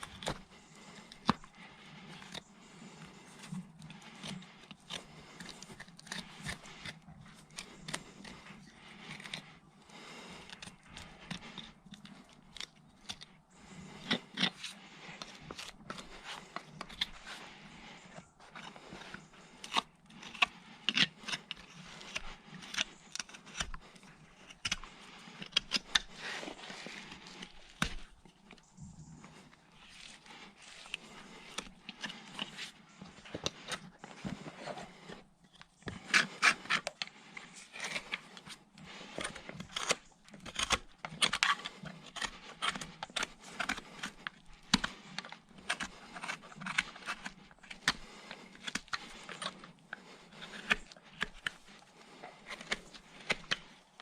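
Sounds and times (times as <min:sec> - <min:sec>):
hand tool scraping hoof: 0:00.0 - 0:54.0.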